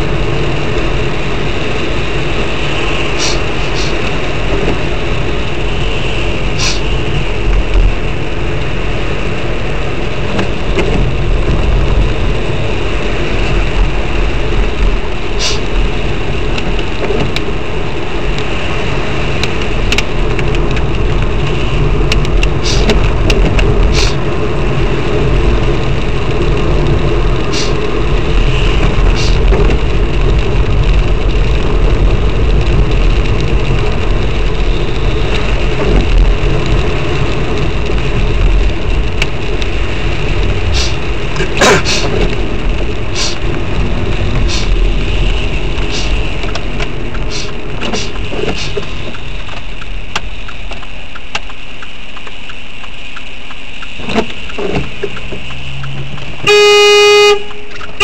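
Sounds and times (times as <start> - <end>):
car engine rumble: 0.0 - 58.0
tyre noise on wet road: 0.0 - 58.0.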